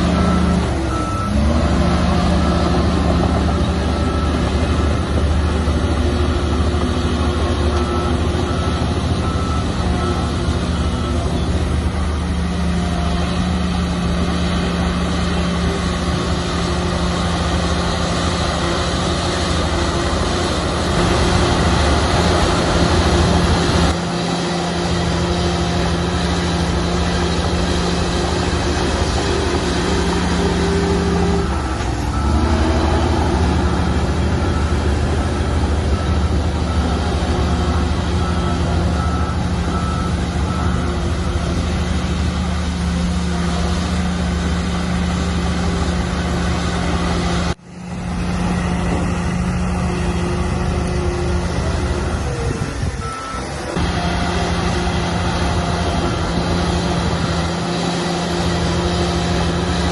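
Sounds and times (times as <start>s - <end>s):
reversing alarm beeping: 0.0s - 19.7s, 21.0s - 47.0s, 48.9s - 59.8s
heavy diesel machinery running: 0.0s - 59.9s.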